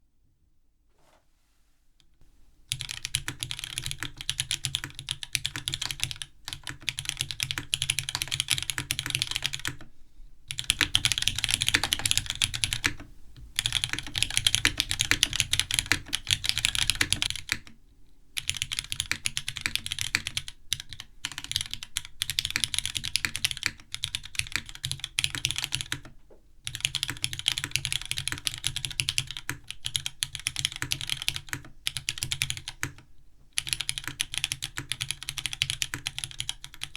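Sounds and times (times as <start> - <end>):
mechanical keyboard typing: 2.7 - 9.9, 10.5 - 17.8, 18.4 - 36.9.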